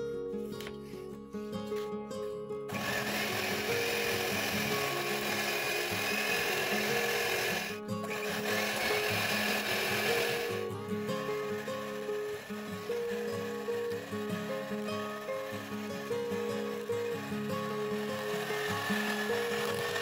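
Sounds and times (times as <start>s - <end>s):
background music: 0.0s - 20.0s
electric hand mixer running: 2.7s - 20.0s.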